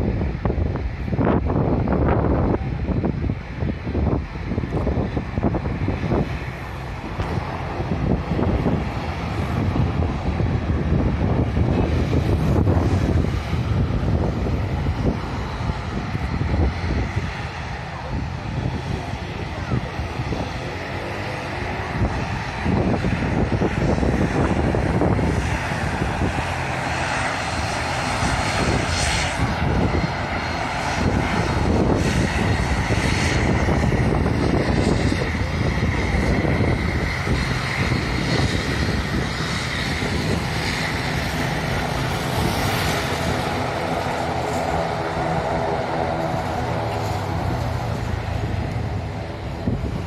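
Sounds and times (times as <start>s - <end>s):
airliner engines rumbling: 0.0s - 50.0s.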